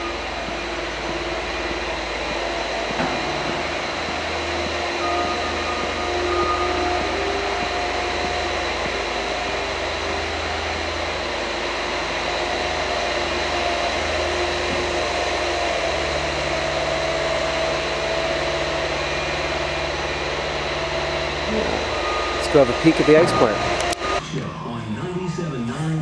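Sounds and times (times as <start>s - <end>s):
low hum: 0.0s - 26.0s
machinery drone: 0.0s - 26.0s
steady tones: 0.0s - 26.0s.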